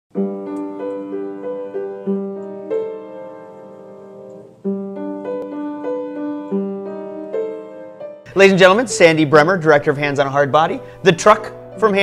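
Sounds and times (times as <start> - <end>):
piano chords: 0.1 - 12.0.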